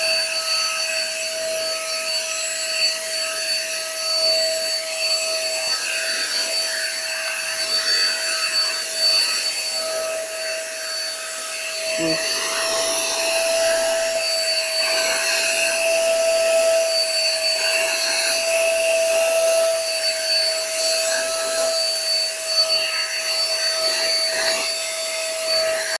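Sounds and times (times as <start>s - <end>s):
handheld vacuum cleaner whining: 0.0s - 25.9s.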